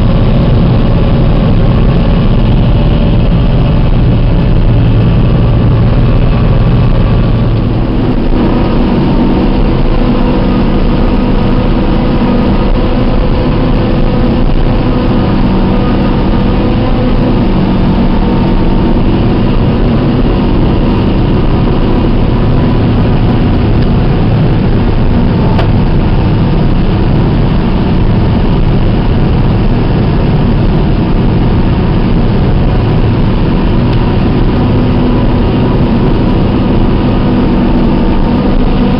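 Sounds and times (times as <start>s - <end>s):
harvester engine and machinery hum: 0.0s - 38.9s.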